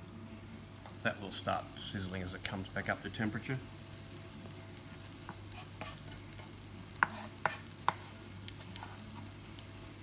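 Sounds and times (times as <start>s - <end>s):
onions sizzling faintly: 0.0s - 10.0s.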